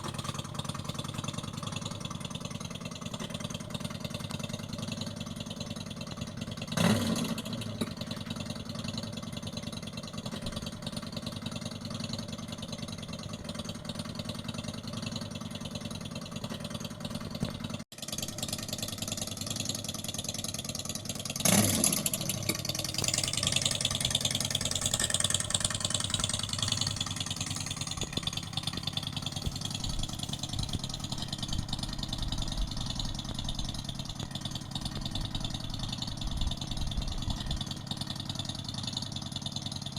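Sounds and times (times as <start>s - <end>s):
simulated motorcycle engine sound: 0.0s - 39.9s.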